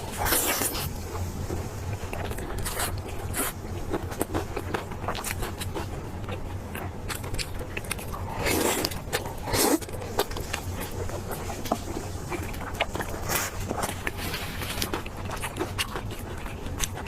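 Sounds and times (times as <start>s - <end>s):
chewing meat: 0.0s - 17.0s.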